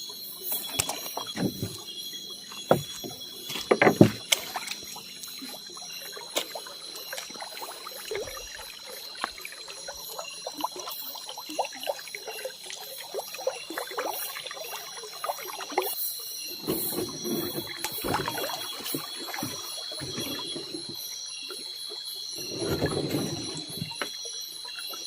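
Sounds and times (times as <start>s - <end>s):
water sloshing and trickling: 0.0s - 25.0s.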